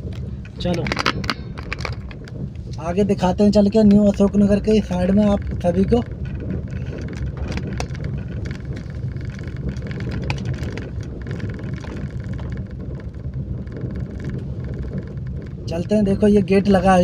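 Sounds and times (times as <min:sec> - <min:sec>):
engine and tyre rumble: 0:00.0 - 0:17.0
small clicks and rattles: 0:00.0 - 0:17.0.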